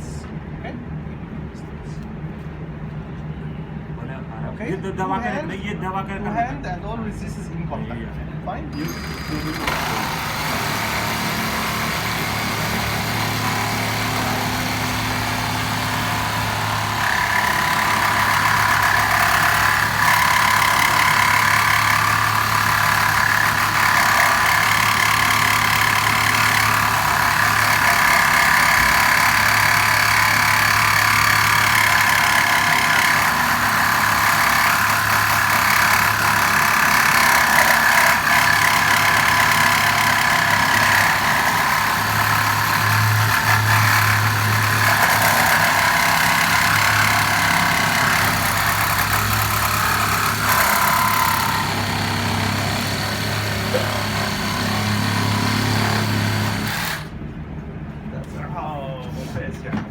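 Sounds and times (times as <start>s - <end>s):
power cutter cutting: 8.7s - 57.2s.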